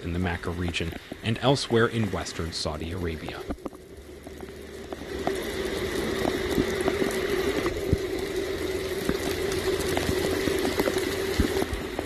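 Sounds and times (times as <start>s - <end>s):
heavy rain pouring: 0.0s - 12.0s
raindrops ticking close by: 0.0s - 12.0s
steady low hum: 0.0s - 12.0s.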